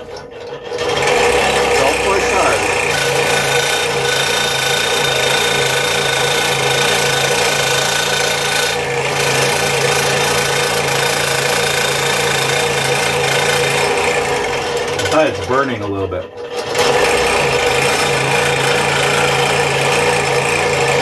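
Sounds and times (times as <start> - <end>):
motor hum: 0.0 - 21.0
scroll saw cutting wood: 0.0 - 21.0.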